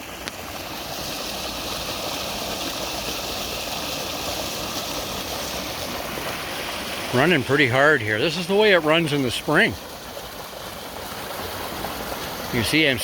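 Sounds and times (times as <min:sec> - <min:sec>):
creek waterfall rushing: 0:00.0 - 0:13.0.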